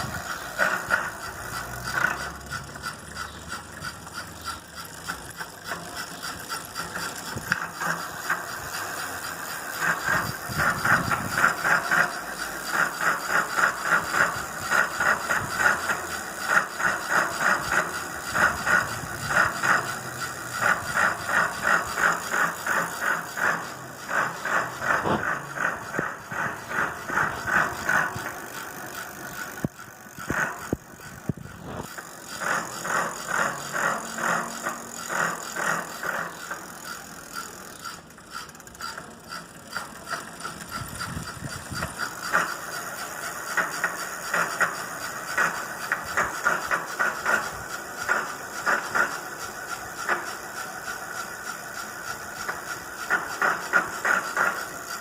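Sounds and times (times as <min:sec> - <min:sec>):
bicycle freewheel ratchet clicking: 0:00.0 - 0:55.0.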